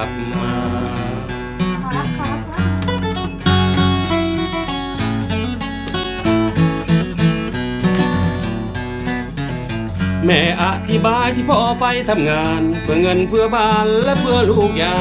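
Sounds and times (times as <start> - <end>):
acoustic guitar melody: 0.0 - 15.0.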